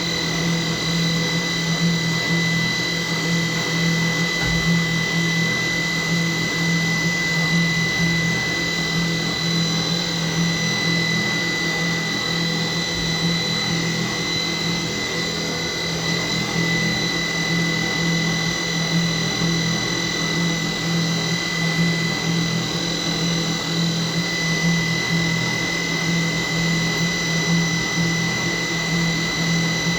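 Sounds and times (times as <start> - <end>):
machine high whine: 0.0 - 29.9.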